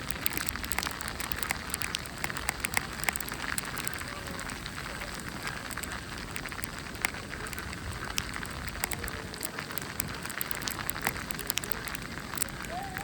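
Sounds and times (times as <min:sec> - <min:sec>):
small ticks and crackles: 0:00.0 - 0:13.0.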